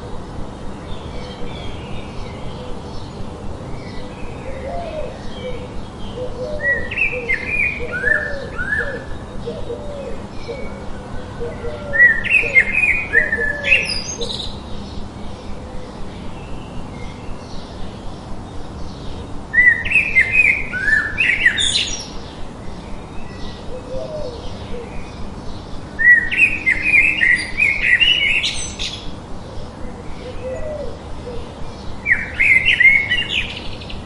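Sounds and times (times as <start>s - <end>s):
songbird singing: 0.0s - 34.0s
white noise hiss: 0.0s - 34.0s.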